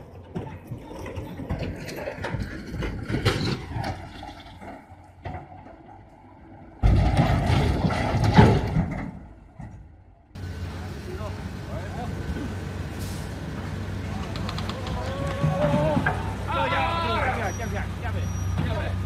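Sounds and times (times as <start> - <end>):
truck heavy crash and rumble: 0.2 - 6.1, 6.7 - 19.0.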